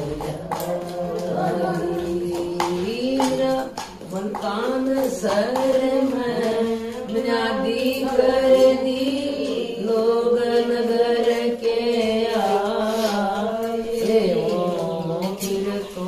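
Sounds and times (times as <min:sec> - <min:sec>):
women singing devotional hymn: 0:00.0 - 0:16.0.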